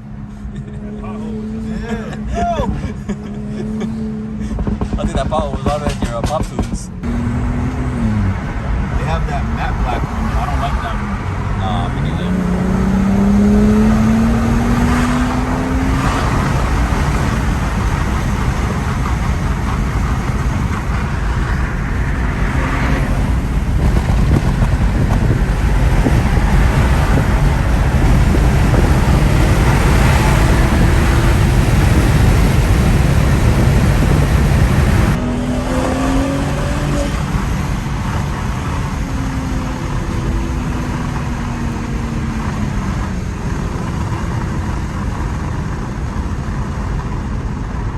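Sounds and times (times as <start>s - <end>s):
car engine accelerating: 0.0s - 47.9s
road rumble: 0.0s - 47.9s.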